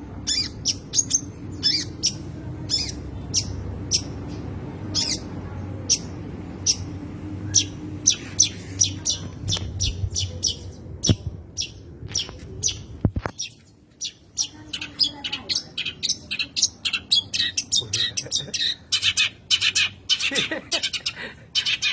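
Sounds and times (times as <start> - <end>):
steady low hum: 0.0 - 21.5
bird chirping and calling: 0.1 - 21.9.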